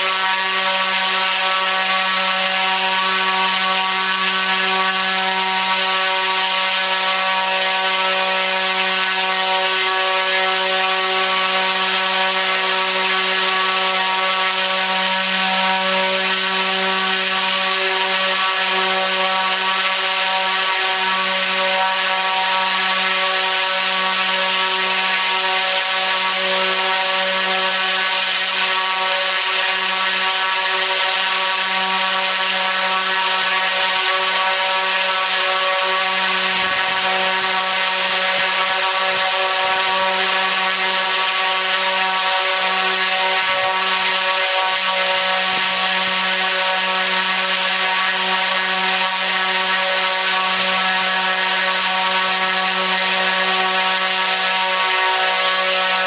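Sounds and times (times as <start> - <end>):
motor propeller drone: 0.0 - 56.0.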